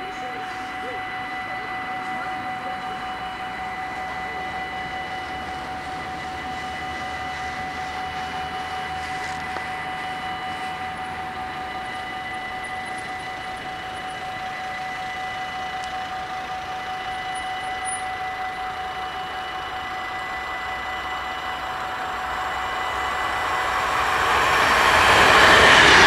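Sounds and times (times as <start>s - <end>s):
approaching train: 0.0s - 26.0s
level-crossing bells ringing: 0.0s - 26.0s.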